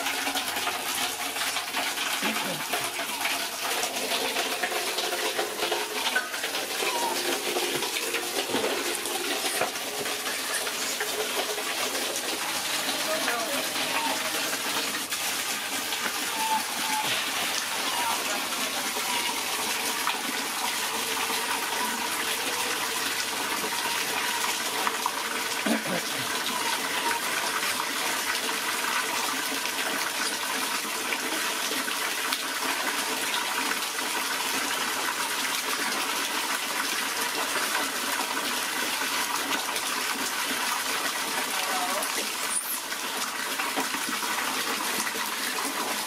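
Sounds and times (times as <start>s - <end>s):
water pouring into metal basin: 0.0s - 46.0s.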